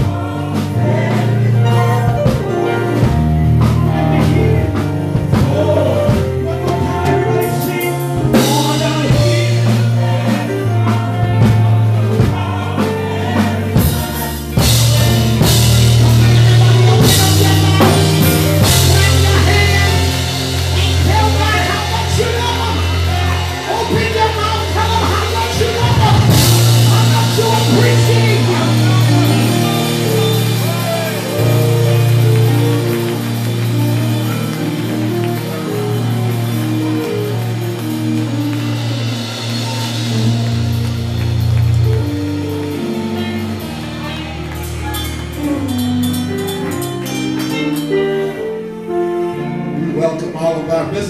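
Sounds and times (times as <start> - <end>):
person singing: 0.0 - 41.2
drums: 0.0 - 48.2
electric guitar: 0.0 - 49.8
low bass notes: 0.0 - 51.0.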